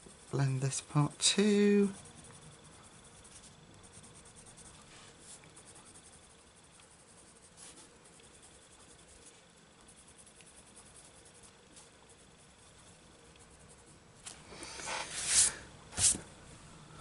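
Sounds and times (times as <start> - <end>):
pencil scratching on paper: 0.0 - 14.0, 14.6 - 16.2.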